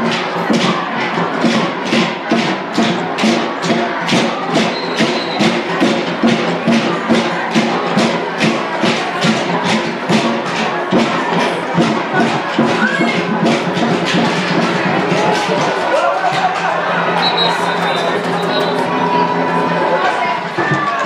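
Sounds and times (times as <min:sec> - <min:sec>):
crowd noise: 0:00.0 - 0:21.0
music with percussion beat: 0:00.0 - 0:21.0.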